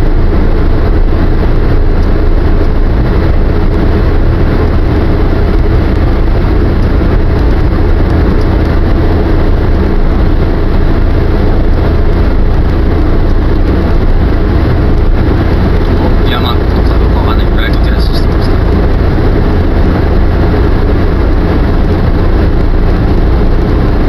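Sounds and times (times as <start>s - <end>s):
car cabin road noise: 0.0s - 24.0s.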